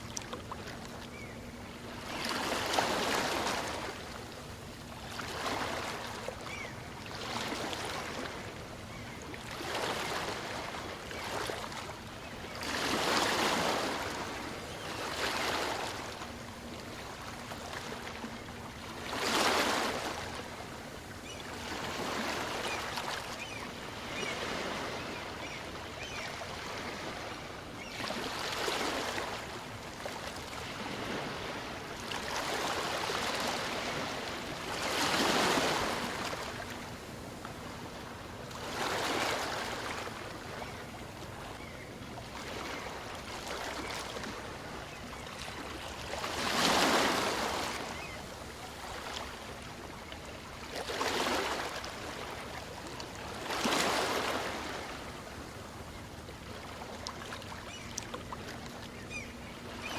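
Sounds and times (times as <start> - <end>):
small waves washing on a beach: 0.0 - 59.9.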